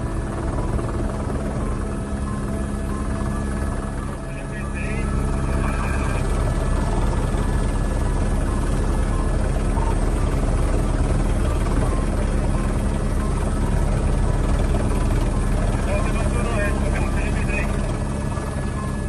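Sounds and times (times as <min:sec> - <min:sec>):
steady engine drone: 0:00.0 - 0:19.0.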